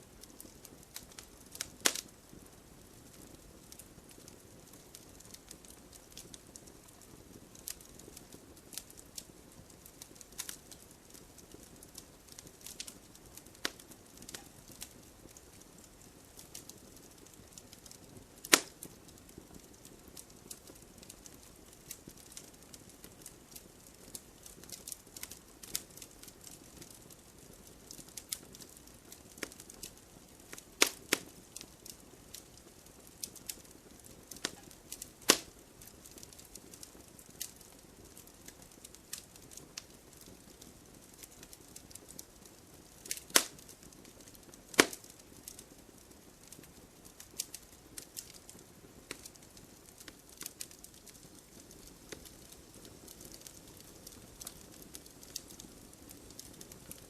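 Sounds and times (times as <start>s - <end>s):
burning wood popping: 0.0s - 57.0s
campfire crackling: 0.0s - 57.0s.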